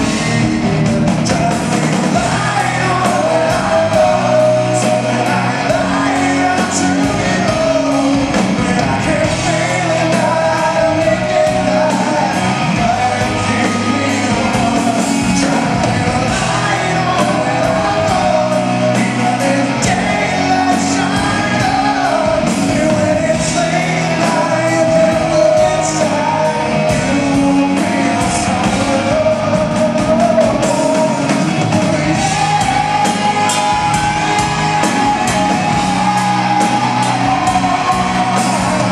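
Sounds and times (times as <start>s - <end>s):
live rock band playing: 0.0s - 38.9s
man singing: 0.0s - 38.9s.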